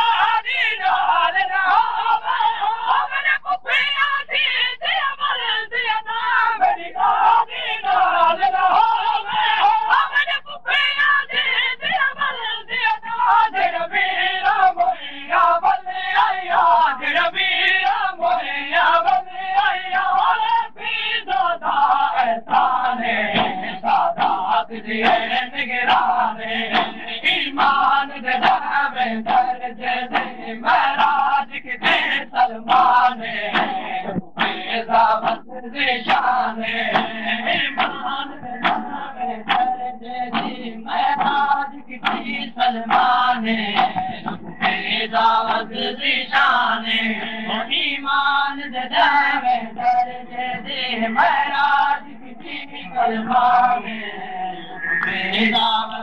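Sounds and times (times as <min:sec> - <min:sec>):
crowd of men chanting: 0:00.0 - 0:56.0
man reciting: 0:00.0 - 0:56.0.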